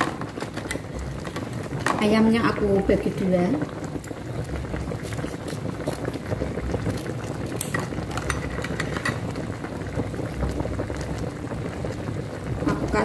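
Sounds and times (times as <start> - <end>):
broth bubbling with small pops: 0.0 - 13.0.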